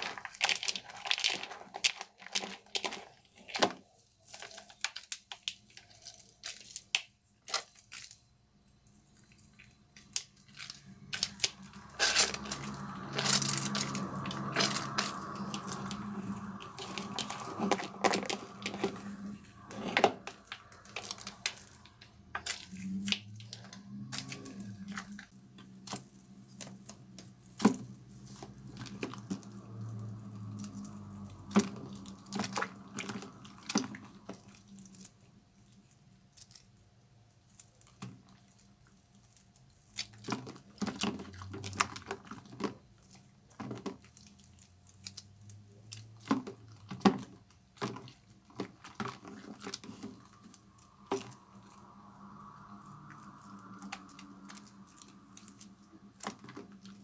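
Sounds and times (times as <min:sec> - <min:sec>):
soap squishing and crackling: 0:00.0 - 0:57.0.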